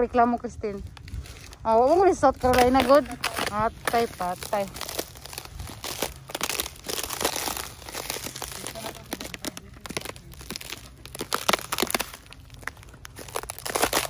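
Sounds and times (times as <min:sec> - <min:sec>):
footsteps on ice and dry leaves: 0:00.0 - 0:14.0.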